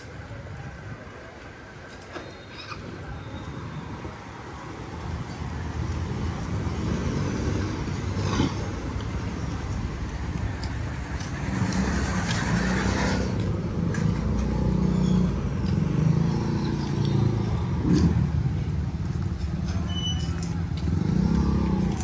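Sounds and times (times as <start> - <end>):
vehicle engine droning: 2.7 - 22.0.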